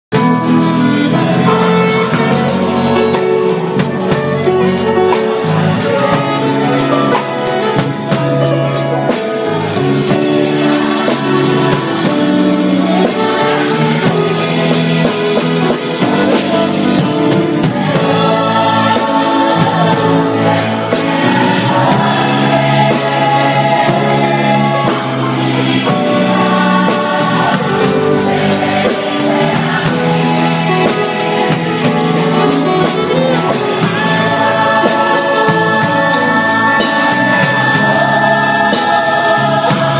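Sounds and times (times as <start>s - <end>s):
drum kit and cymbals: 0.1s - 39.9s
live band and singers: 0.1s - 39.9s.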